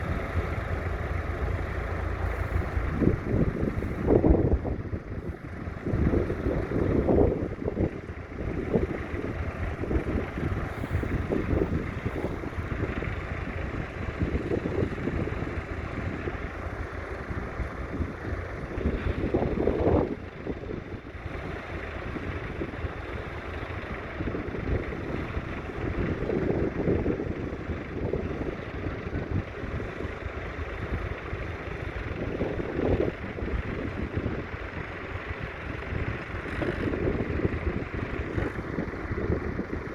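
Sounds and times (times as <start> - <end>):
tractor diesel engine running: 0.0 - 39.9
wind buffeting microphone: 0.0 - 39.9.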